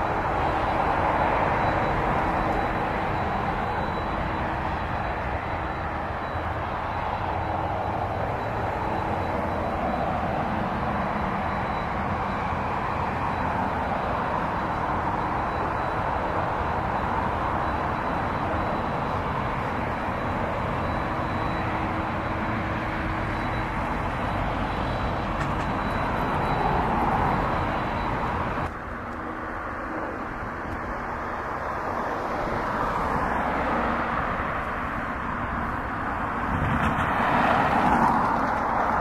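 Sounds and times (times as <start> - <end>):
jet engines at taxi power: 0.0 - 39.0.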